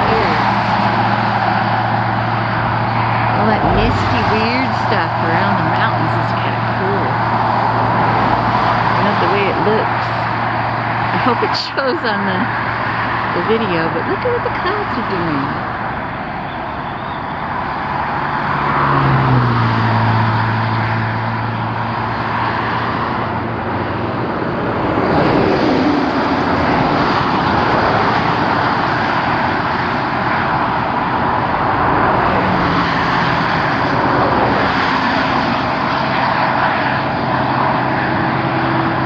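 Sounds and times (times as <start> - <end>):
low engine hum: 0.0 - 39.0
road and tyre noise: 0.0 - 39.0.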